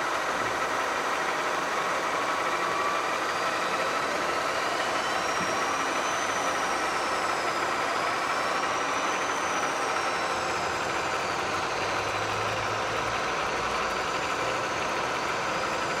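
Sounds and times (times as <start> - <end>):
heavy machinery running: 0.0 - 16.0
faint high whine: 1.0 - 16.0.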